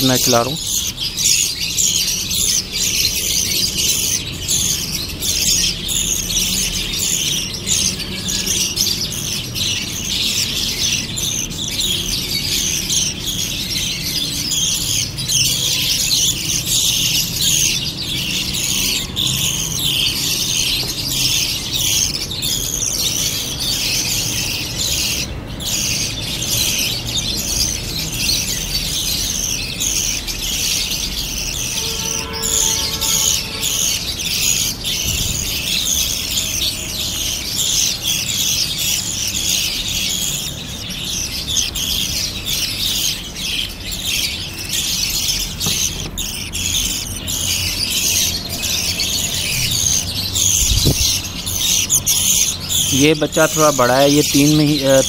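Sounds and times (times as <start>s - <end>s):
chicks chirping rapidly: 0.0s - 55.0s.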